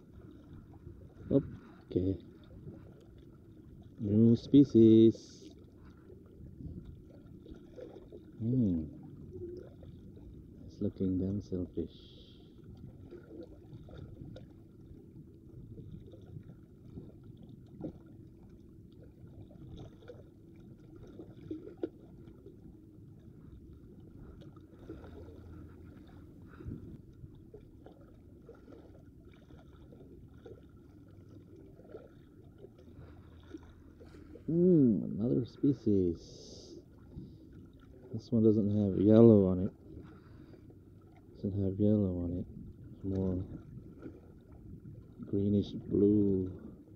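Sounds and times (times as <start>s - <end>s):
small waves lapping against rocks: 0.0s - 46.9s.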